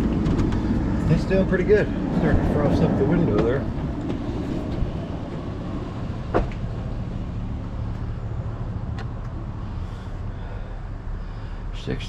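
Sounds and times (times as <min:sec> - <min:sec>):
vehicle rumble inside cab: 0:00.0 - 0:12.0.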